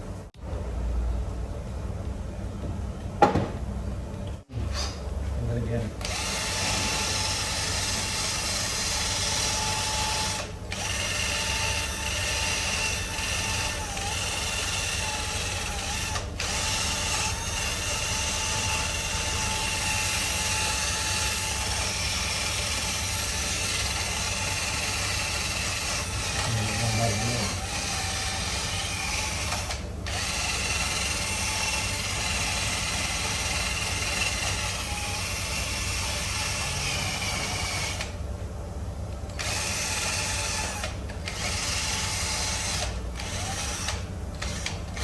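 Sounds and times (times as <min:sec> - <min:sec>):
power tool whining: 0:06.0 - 0:38.2, 0:39.3 - 0:45.0.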